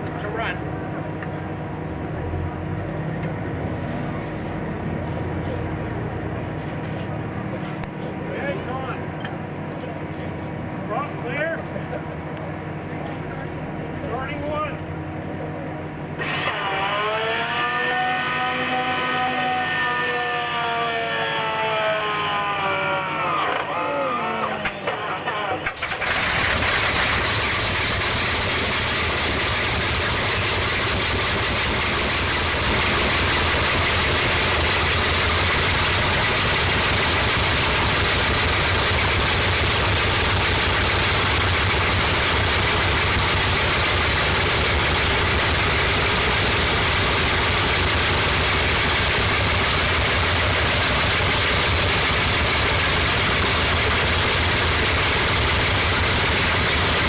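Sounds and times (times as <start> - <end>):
radial aero engine starting and running: 0.0 - 57.0.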